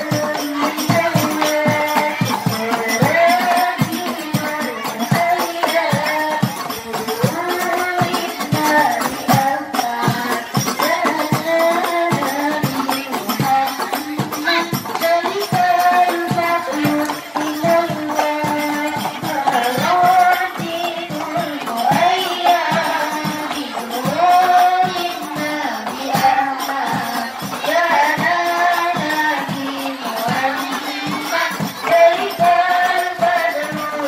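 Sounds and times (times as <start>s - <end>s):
frame drums: 0.0s - 34.0s
girls singing in unison: 0.0s - 34.0s.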